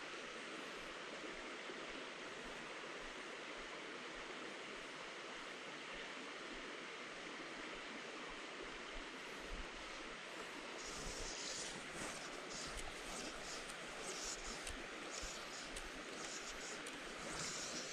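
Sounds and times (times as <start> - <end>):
creek water flowing: 0.0 - 17.9.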